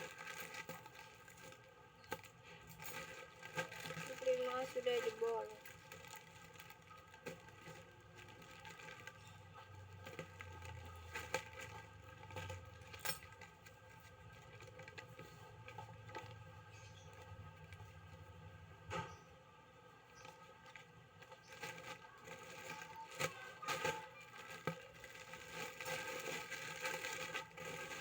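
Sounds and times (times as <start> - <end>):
packaging rustling: 0.0 - 18.3, 20.1 - 28.0.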